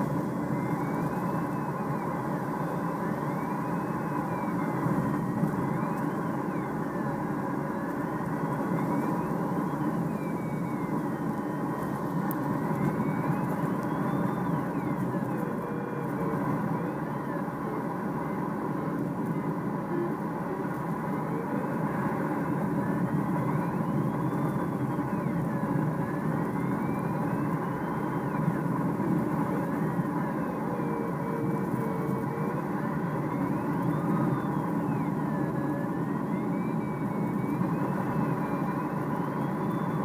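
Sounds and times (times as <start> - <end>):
plane engine droning: 0.0 - 40.0.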